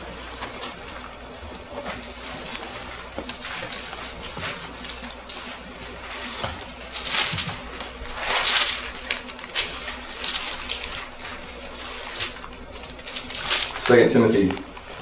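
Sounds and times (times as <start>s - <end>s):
thin pages turning: 0.0s - 15.0s.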